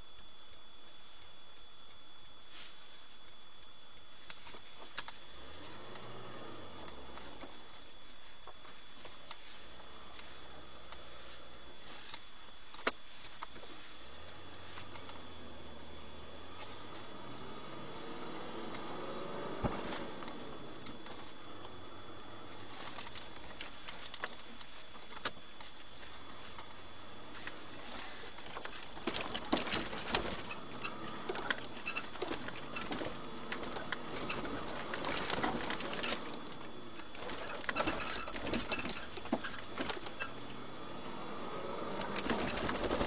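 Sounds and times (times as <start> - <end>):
road noise hiss: 0.7 - 43.0.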